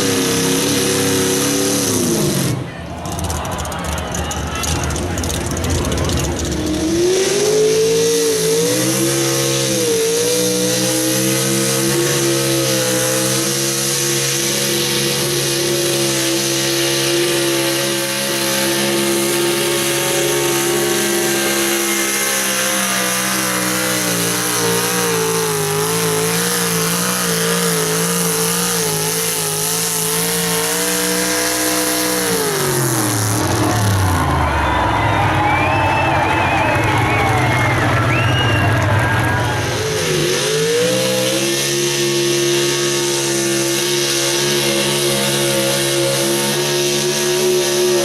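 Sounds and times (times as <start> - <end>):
truck engine at high revs: 0.0 - 48.0.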